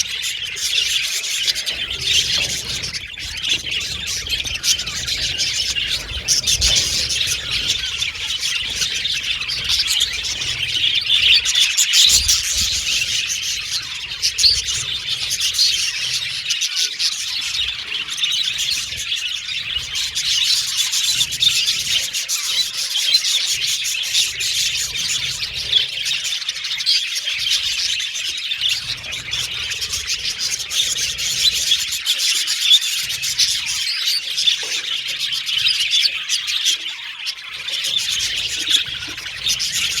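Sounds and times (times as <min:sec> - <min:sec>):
budgerigars chattering and chirping: 0:00.0 - 0:40.0.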